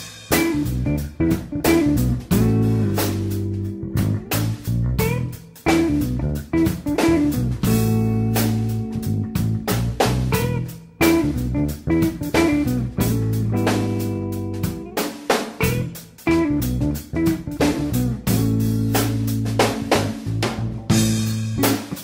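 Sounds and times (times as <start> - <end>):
guitar music with drums: 0.0 - 22.0.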